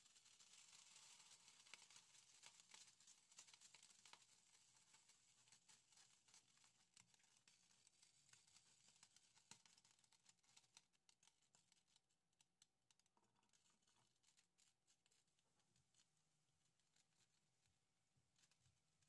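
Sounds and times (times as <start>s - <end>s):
faint oil crackling in pan: 0.0s - 16.2s.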